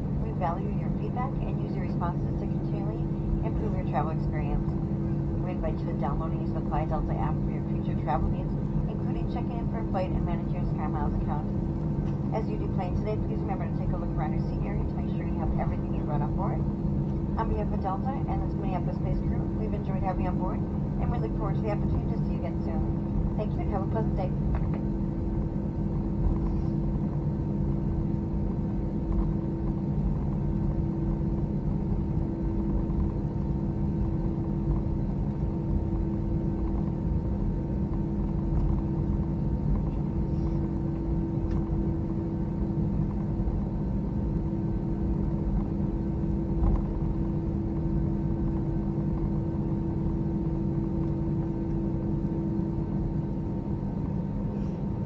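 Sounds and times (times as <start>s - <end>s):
aircraft engines idling rumble: 0.0s - 55.0s
constant low hums: 0.0s - 55.0s.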